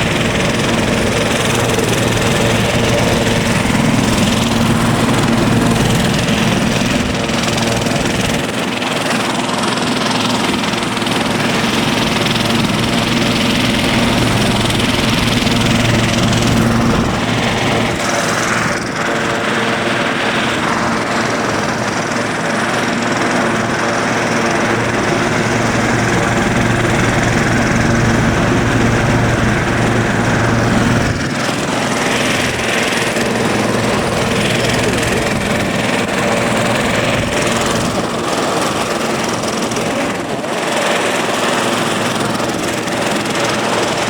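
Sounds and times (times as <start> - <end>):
helicopter rotor and engine: 0.0 - 44.0.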